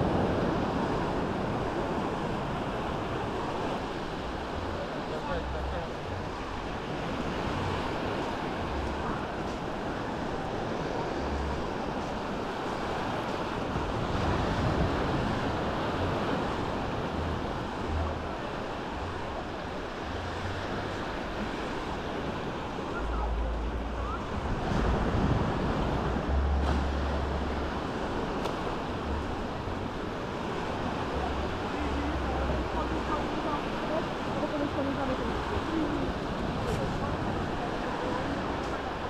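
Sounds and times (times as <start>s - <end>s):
waves washing on sandy beach: 0.0s - 39.0s
wind rumbling on microphone: 0.0s - 39.0s.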